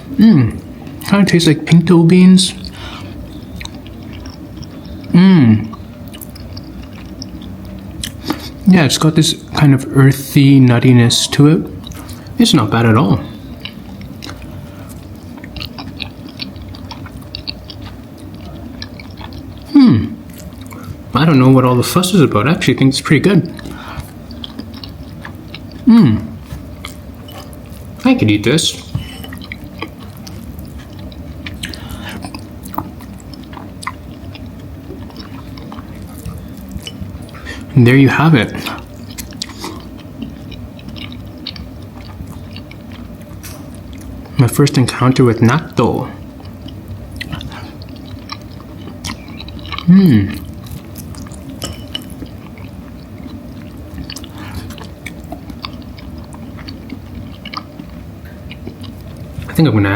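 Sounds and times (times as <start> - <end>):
person chewing food: 2.5 - 8.7, 11.6 - 21.8, 22.4 - 59.8.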